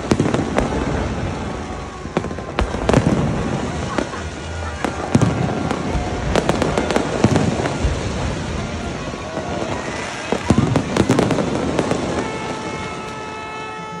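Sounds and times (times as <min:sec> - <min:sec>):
rumbling haze: 0:00.0 - 0:13.0
fireworks bangs and crackles: 0:00.0 - 0:14.0.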